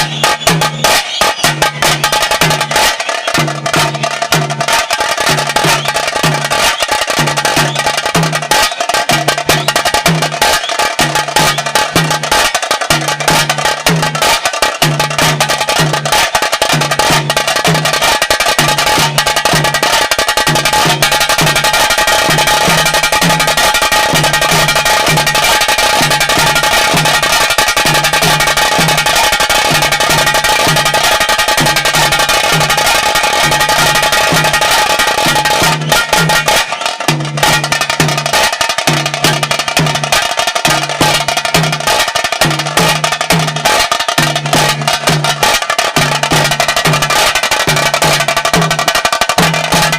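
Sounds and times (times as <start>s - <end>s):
deep drum beat: 0.0s - 49.9s
drums beaten fast with sticks: 0.0s - 49.9s.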